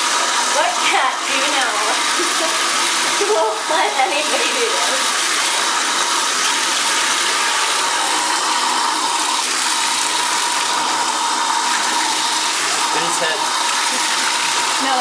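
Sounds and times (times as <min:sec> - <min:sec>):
tap water gushing into tub: 0:00.0 - 0:15.0.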